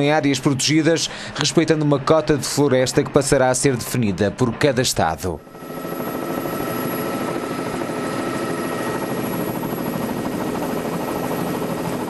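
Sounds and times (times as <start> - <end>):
helicopter engine and rotor noise: 0.0 - 12.0.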